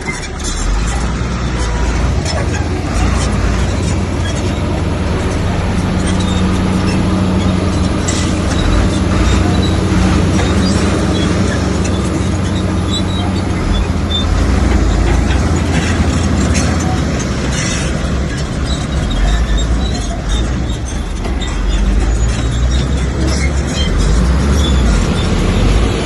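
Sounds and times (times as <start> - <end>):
bulldozer diesel engine running: 0.0 - 26.0
metal tracks clanking and squealing: 0.0 - 26.0.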